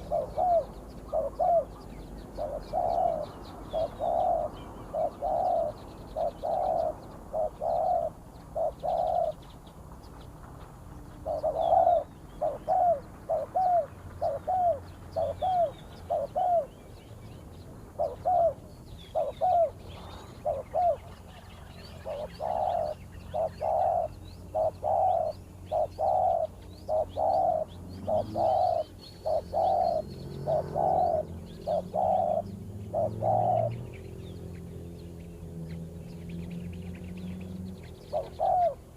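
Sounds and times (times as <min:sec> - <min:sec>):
doves cooing: 0:00.0 - 0:38.9.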